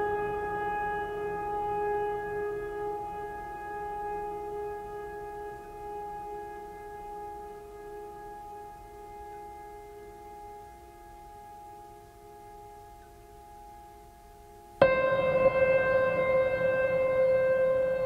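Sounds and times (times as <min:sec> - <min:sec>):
ambient held tone music: 0:00.0 - 0:18.0.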